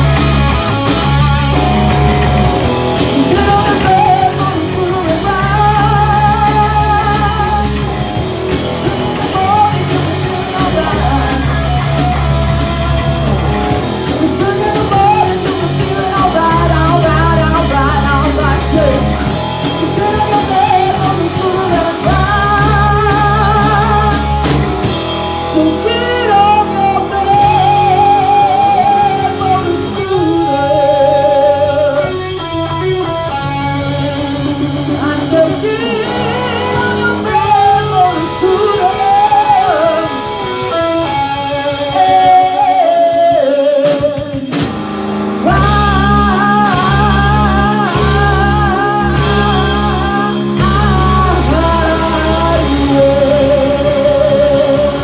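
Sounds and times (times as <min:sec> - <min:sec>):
bending lead guitar line: 0:00.0 - 0:55.0
rock band playing: 0:00.0 - 0:55.0.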